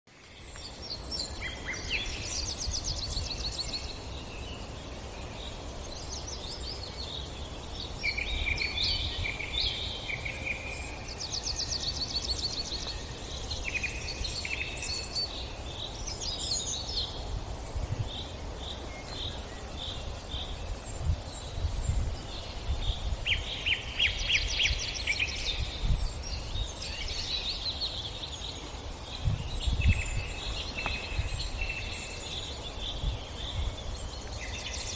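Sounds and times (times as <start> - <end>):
birds chirping and trilling: 0.1 - 34.9.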